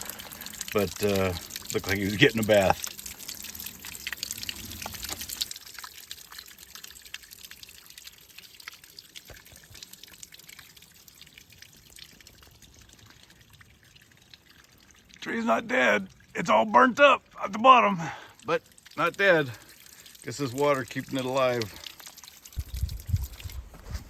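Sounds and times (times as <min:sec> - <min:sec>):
little water splashes: 0:00.0 - 0:24.0
spring trickling over rocks: 0:00.0 - 0:24.0.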